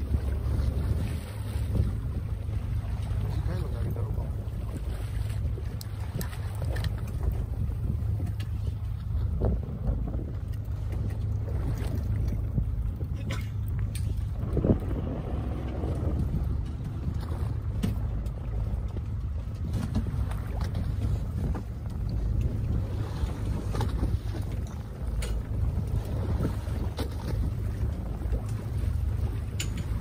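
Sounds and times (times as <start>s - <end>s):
boat engine rumbling: 0.0s - 30.0s
wind on microphone: 0.0s - 30.0s.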